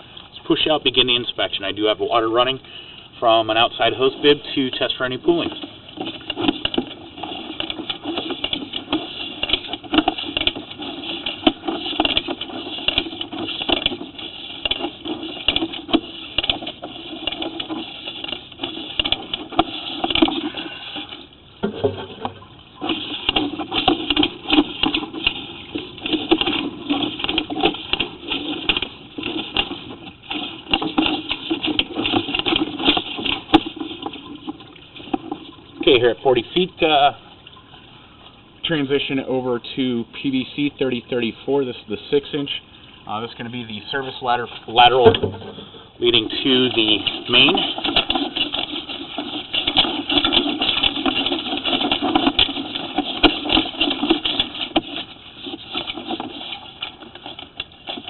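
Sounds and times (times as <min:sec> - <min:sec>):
water rushing through sewer pipe: 0:00.0 - 0:58.0.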